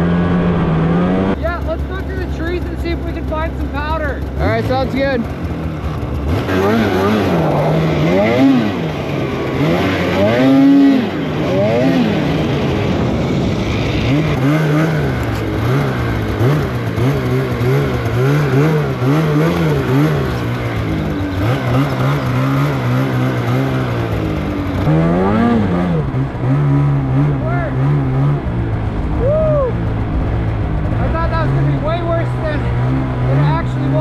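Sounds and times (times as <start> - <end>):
snowmobile engine revving: 0.0 - 34.0.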